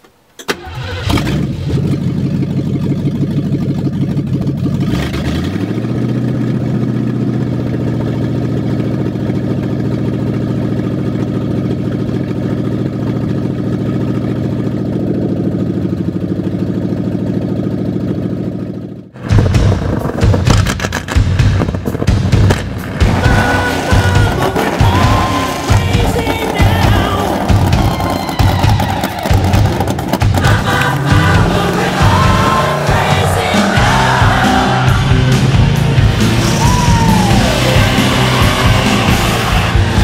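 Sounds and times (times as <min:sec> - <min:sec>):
car engine starting and idling: 0:00.0 - 0:40.0.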